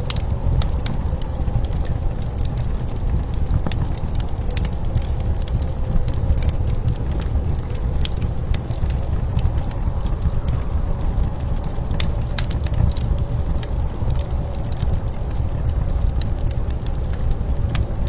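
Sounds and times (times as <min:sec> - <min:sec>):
blizzard wind rumbling: 0:00.0 - 0:18.0
wood fire crackling and popping: 0:00.0 - 0:18.0.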